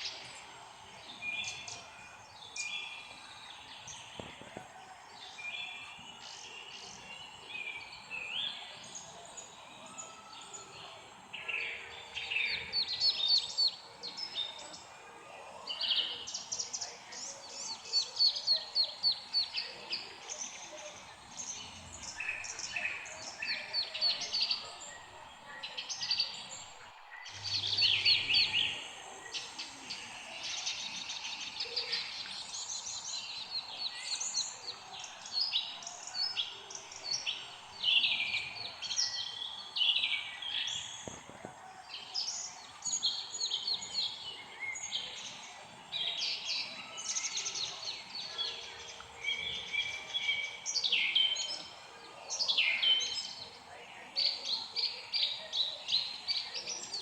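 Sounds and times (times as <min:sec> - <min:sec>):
faint steady hiss: 0:00.0 - 0:52.5
songbirds chirping and singing: 0:00.0 - 0:57.0.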